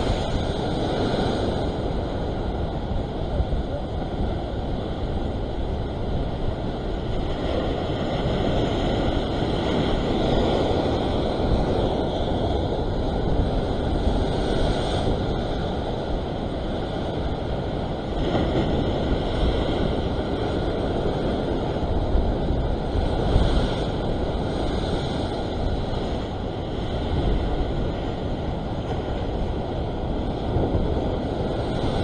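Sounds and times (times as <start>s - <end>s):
surf washing over rocks: 0.0s - 32.0s
wind buffeting microphone: 0.0s - 32.0s.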